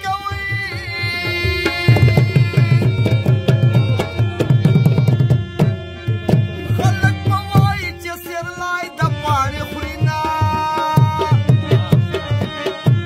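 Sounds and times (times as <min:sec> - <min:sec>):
harmonium sustained notes: 0:00.0 - 0:13.0.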